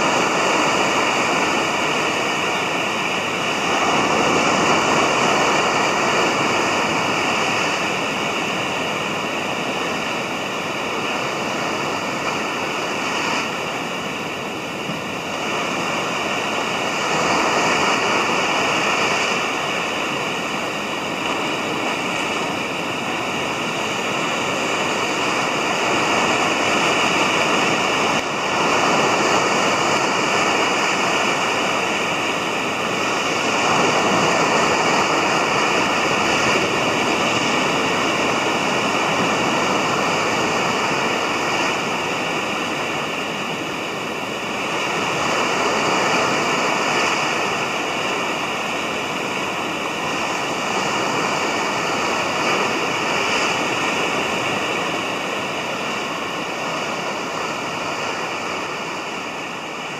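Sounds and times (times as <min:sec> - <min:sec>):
surf washing up beach: 0:00.0 - 0:59.9.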